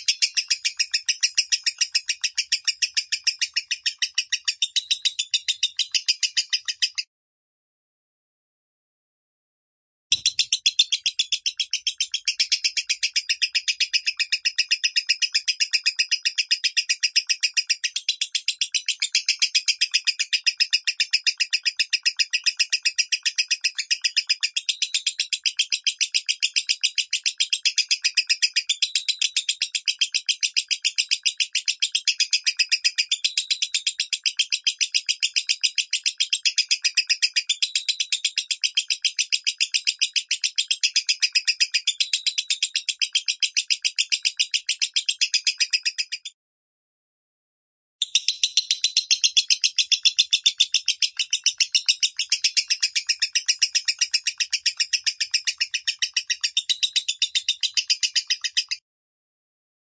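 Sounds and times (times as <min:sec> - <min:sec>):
lovebird chirping: 0:00.0 - 0:07.0, 0:10.1 - 0:46.4, 0:48.0 - 0:58.8.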